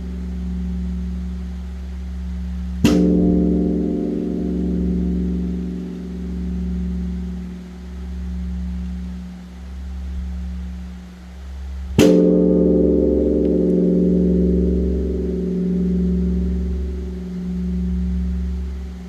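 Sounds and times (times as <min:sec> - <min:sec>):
large temple bell struck: 0:00.0 - 0:10.8, 0:11.9 - 0:19.0.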